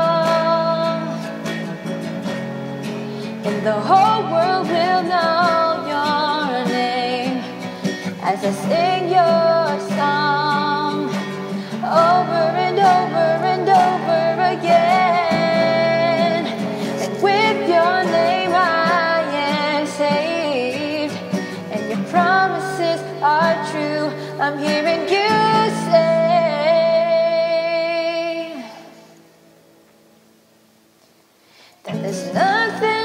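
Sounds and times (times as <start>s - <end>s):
woman singing: 0.0s - 2.4s, 3.2s - 29.1s, 31.9s - 33.0s
guitar accompaniment: 0.0s - 33.0s.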